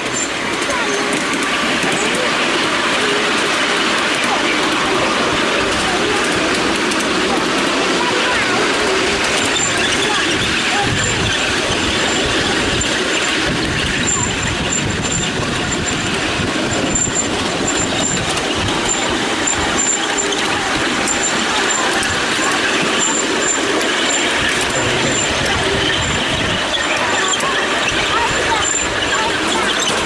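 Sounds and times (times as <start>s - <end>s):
miniature train running on rails: 0.0s - 30.0s.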